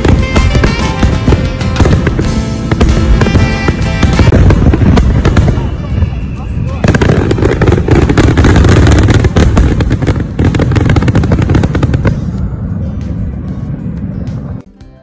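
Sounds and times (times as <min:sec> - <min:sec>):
fireworks crackling: 0:00.0 - 0:14.5
low fireworks rumble: 0:00.0 - 0:14.7.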